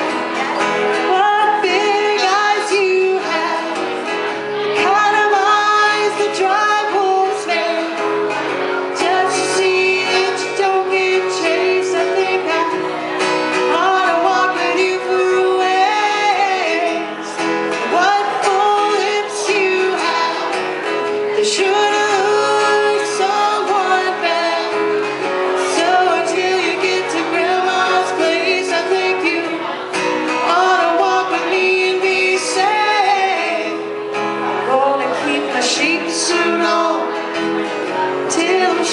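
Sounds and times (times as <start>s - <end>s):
acoustic guitar: 0.0s - 38.9s
woman singing: 0.0s - 38.9s.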